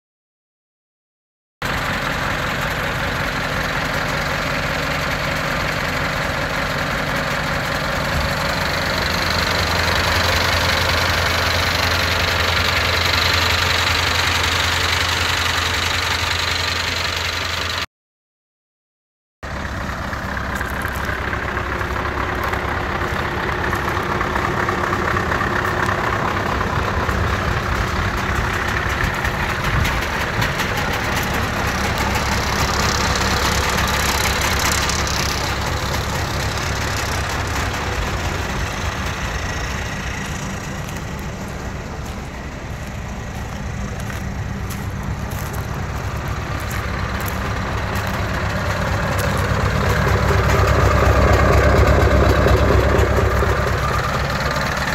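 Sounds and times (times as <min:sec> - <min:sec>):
diesel engine idling: 0:01.6 - 0:17.9, 0:19.4 - 0:54.9.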